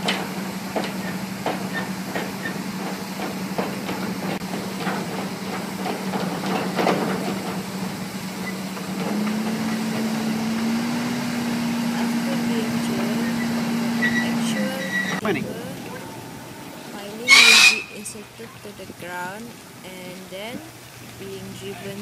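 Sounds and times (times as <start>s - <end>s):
pile-driving rig engine running: 0.0s - 22.0s.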